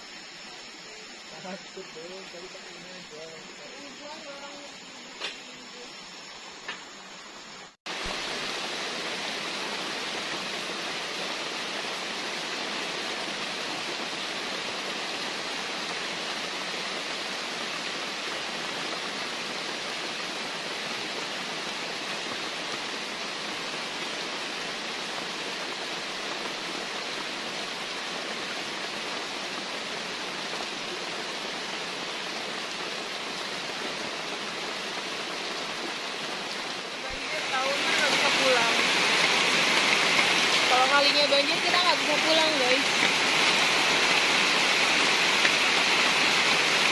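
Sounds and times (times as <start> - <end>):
flooding creek running: 0.0 - 46.9
heavy rain on foliage: 0.0 - 46.9.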